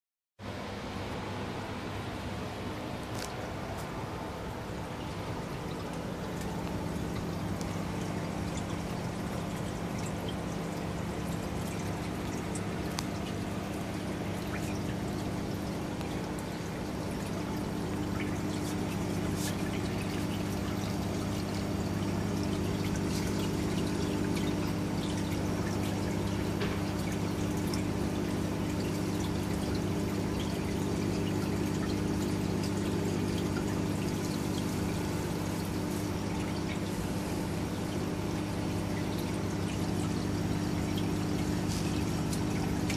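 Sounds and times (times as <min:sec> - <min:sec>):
water pouring and splashing: 0:04.6 - 0:42.9.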